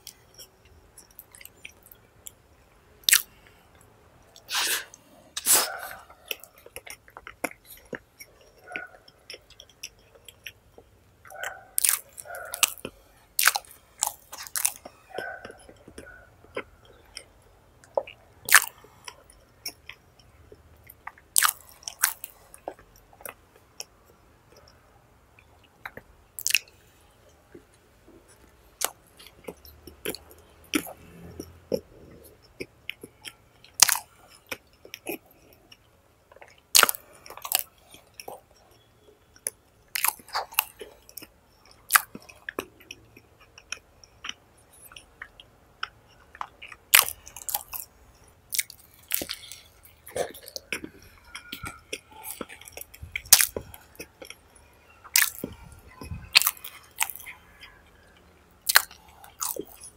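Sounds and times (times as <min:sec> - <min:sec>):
chewing soft bun: 0:00.0 - 0:59.9.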